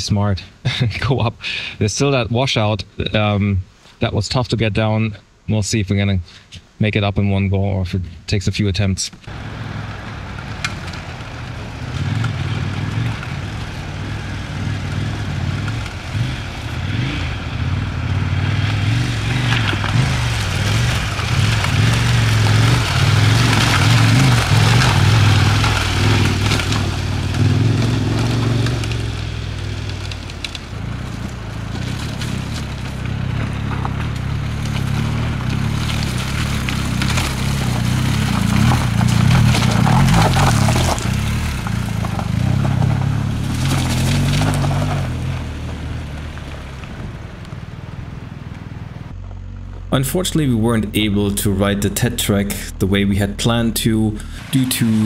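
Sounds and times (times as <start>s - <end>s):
motorcycle engines revving: 9.3s - 55.0s
tyres crunching over gravel: 9.3s - 55.0s.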